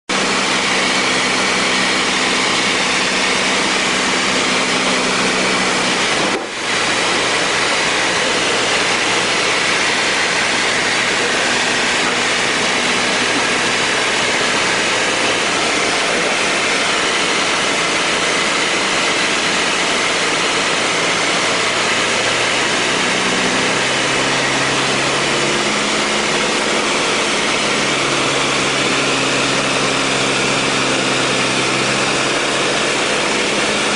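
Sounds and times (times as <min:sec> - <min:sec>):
plane engine running: 0:00.1 - 0:33.9.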